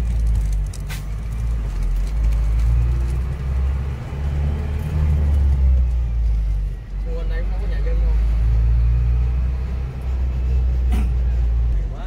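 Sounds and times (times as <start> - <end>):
fire engine running: 0.0 - 12.0.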